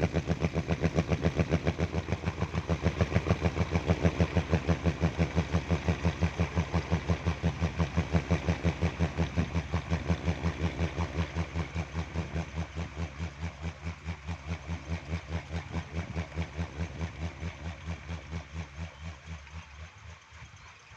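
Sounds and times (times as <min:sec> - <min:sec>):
windmill noisemaker humming throb: 0:00.0 - 0:20.9.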